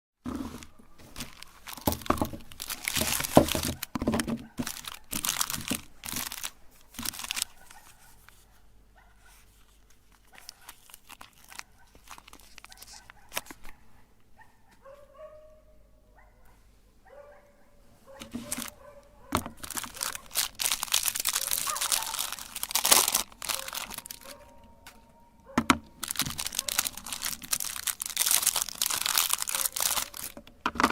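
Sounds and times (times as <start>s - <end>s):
crinkling and tearing: 0.3s - 8.6s, 9.2s - 13.8s, 18.1s - 30.9s.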